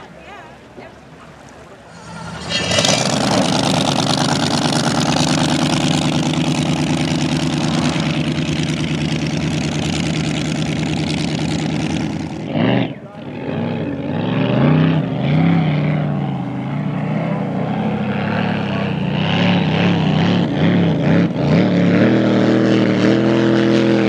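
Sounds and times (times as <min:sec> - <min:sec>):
boat engine roaring: 0:00.0 - 0:24.0.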